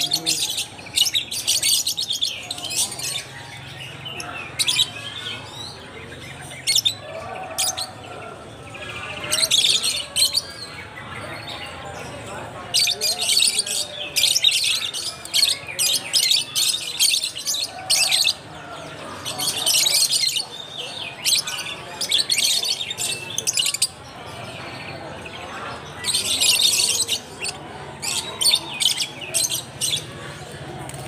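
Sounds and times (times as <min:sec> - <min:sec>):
lovebirds chattering calls: 0:00.0 - 0:31.0.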